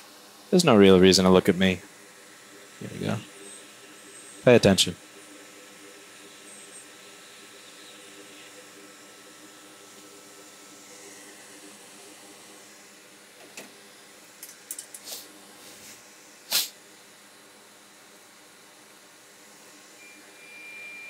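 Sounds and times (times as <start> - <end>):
faint hum: 0.0 - 21.0
fan hiss: 0.0 - 21.0.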